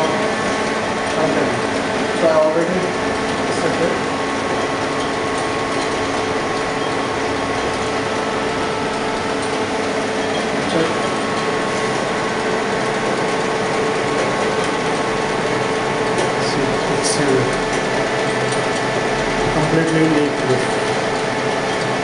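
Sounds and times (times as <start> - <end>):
machine humming with steady tones: 0.0 - 22.0.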